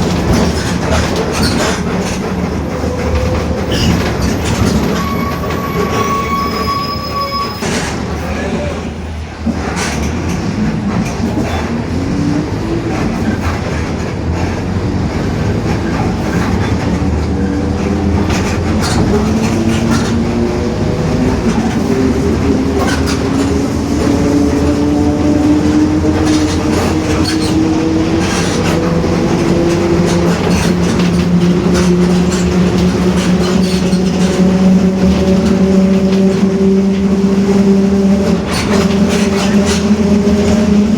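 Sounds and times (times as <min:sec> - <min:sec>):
bus diesel engine running: 0:00.0 - 0:06.4, 0:07.6 - 0:40.9.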